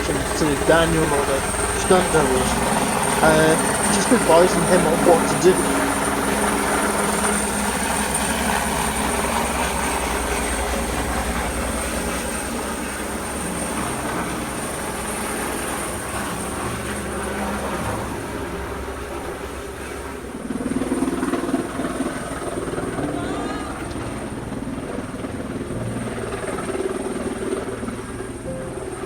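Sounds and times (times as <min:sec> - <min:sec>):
helicopter rotor beating: 0:00.0 - 0:29.0.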